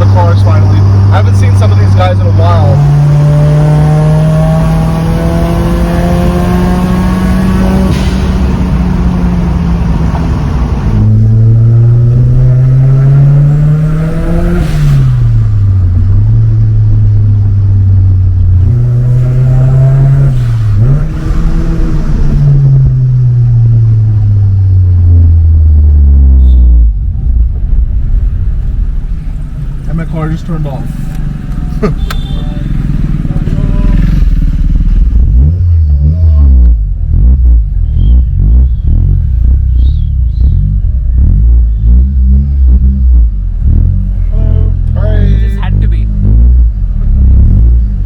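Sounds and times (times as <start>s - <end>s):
car engine shifting gears: 0.0s - 48.0s.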